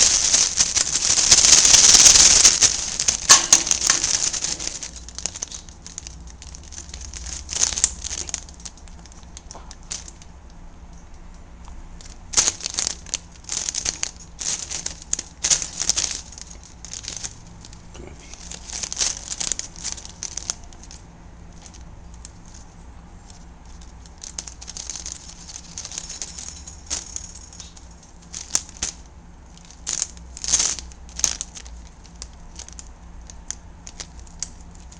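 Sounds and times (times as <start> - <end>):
plastic bag crinkling: 0.0 - 11.1, 12.0 - 34.9.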